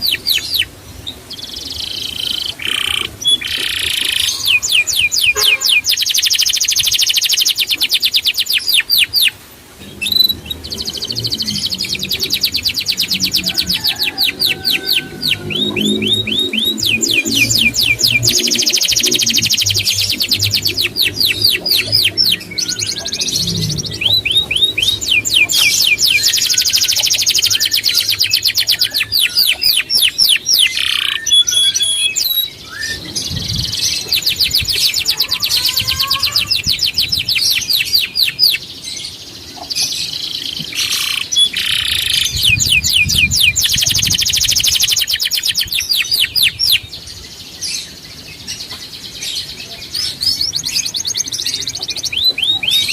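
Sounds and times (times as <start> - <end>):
songbird singing fast trills: 0.0 - 52.9.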